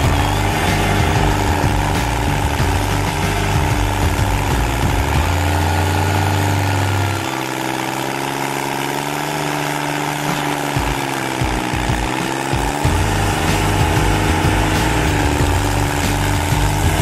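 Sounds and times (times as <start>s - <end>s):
cutter wheel grinding stump: 0.0s - 17.0s
stump grinder engine running: 0.0s - 17.0s.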